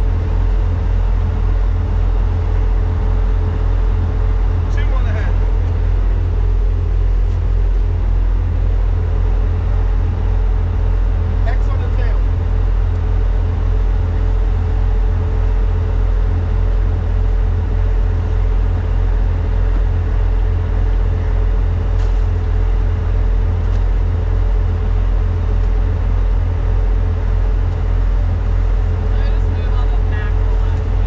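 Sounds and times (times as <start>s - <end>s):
constant hum: 0.0s - 31.0s
engine low rumble: 0.0s - 31.0s.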